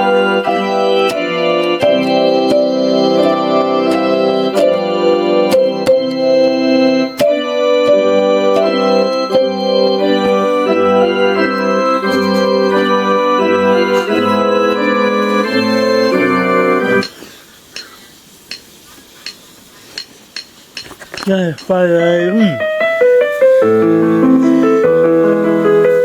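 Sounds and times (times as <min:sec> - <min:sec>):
organ-like keyboard chords: 0:00.0 - 0:17.1, 0:21.8 - 0:26.0.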